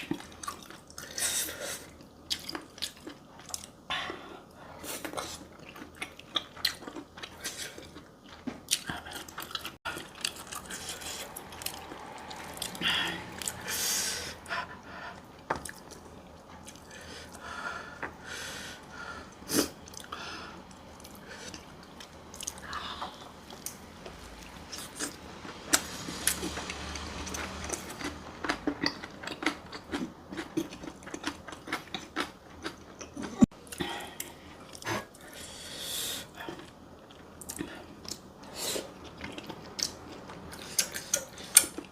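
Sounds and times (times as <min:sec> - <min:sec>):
person chewing crunchy food: 0:00.0 - 0:35.6, 0:36.2 - 0:41.9.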